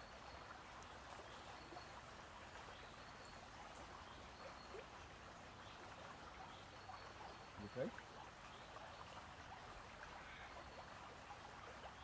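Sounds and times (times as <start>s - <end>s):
faint rush of stream: 0.0s - 12.0s.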